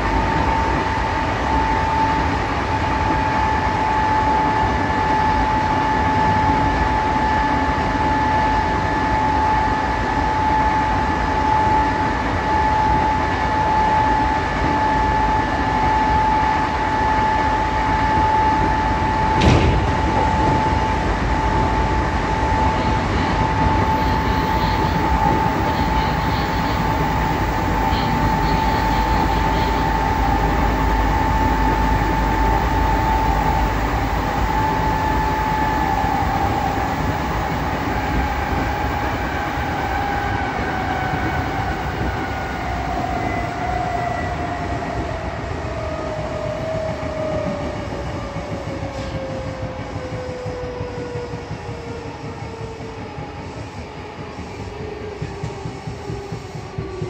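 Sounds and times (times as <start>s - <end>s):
electric train high hum: 0.0s - 57.0s.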